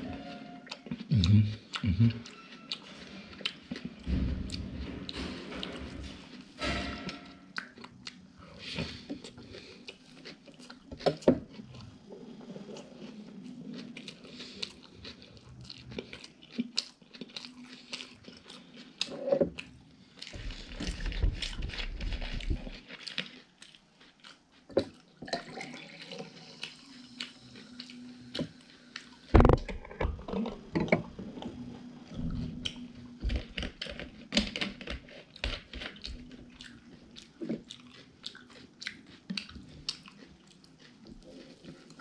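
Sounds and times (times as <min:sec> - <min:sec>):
person chewing with wet mouth sounds: 0:00.1 - 0:04.7, 0:07.5 - 0:29.6, 0:30.4 - 0:42.0.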